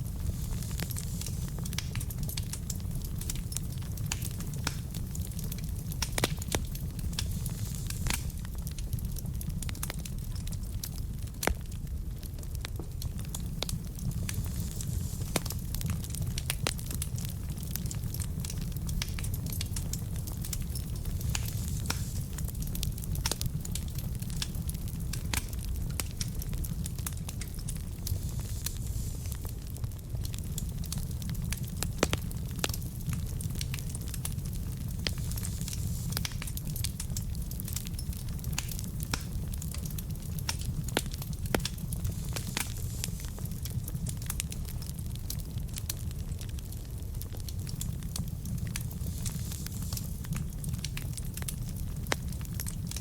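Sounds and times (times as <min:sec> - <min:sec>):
burning logs crackling and popping: 0:00.0 - 0:53.0
low rumble of flames: 0:00.0 - 0:53.0.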